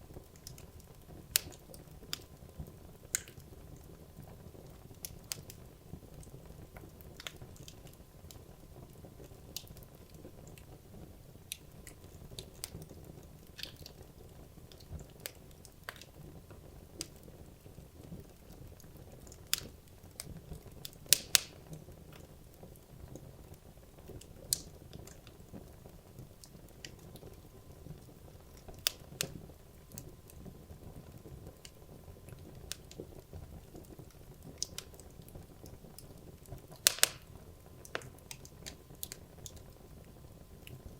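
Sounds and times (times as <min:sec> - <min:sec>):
logs burning in fireplace: 0:00.0 - 0:40.9.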